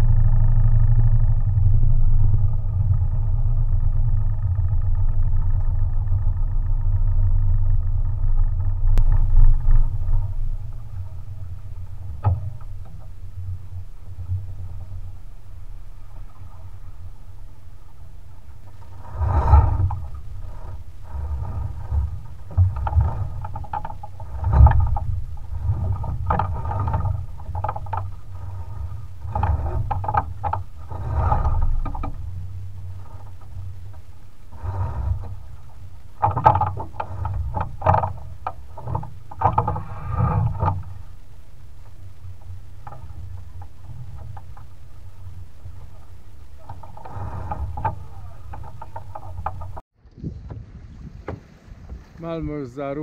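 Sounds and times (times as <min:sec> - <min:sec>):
low steady rumble: 0:00.0 - 0:53.0
water splashing along hull: 0:00.0 - 0:53.0.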